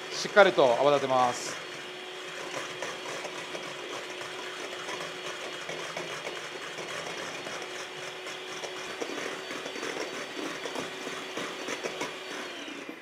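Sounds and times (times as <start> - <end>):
beaters whisking in metal bowl: 0.0 - 13.0
electric hand mixer running: 0.0 - 13.0.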